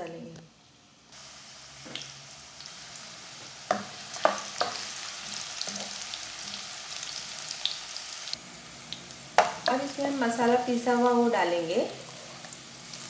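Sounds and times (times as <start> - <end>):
onions sizzling in hot oil: 1.1 - 13.0.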